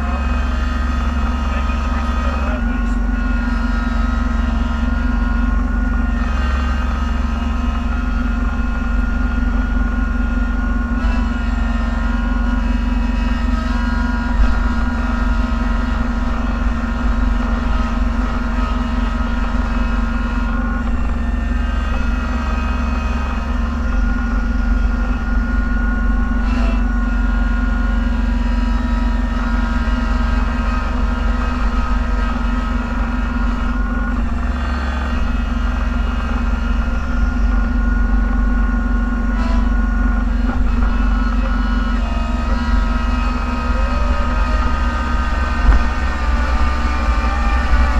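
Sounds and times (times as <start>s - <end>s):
vehicle engine droning: 0.0s - 47.9s.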